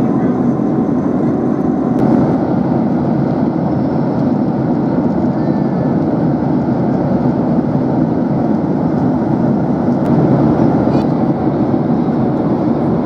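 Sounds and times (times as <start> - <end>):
airplane cabin engine noise: 0.0 - 13.0.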